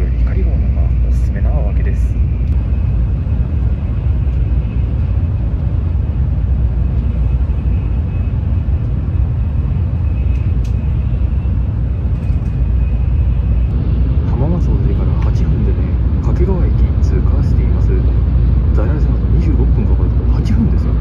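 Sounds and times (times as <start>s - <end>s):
faint steady whine: 0.0s - 21.0s
train cabin rumble: 0.0s - 21.0s.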